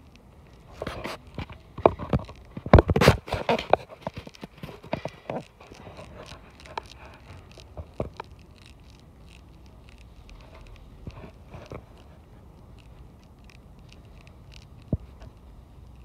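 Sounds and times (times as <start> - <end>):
low steady background: 0.0 - 16.0.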